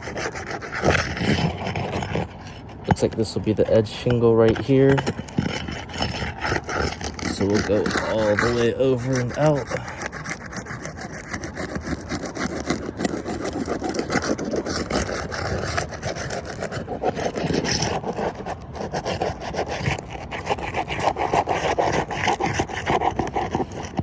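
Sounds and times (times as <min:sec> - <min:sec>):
roof snake scraping under shingle: 0:00.0 - 0:24.0.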